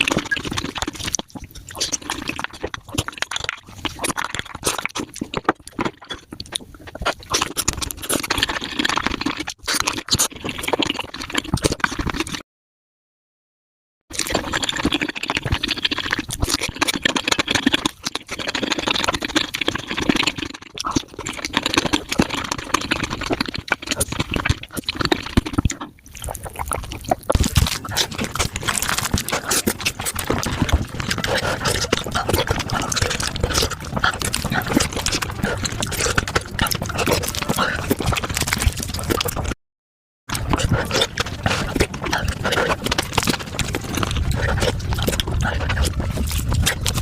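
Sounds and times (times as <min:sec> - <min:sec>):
sped-up eating sounds: 0:00.0 - 0:12.4, 0:14.1 - 0:39.6, 0:40.3 - 0:47.0.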